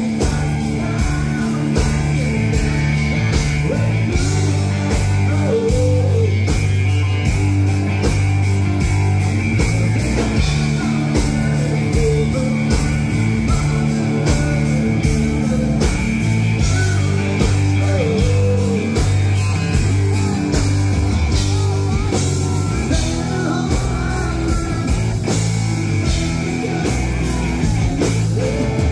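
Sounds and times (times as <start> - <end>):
man singing: 0.0 - 7.0, 9.6 - 20.7, 21.3 - 28.9
drum kit: 0.0 - 28.9
electric bass: 0.0 - 28.9
guitar: 0.0 - 28.9.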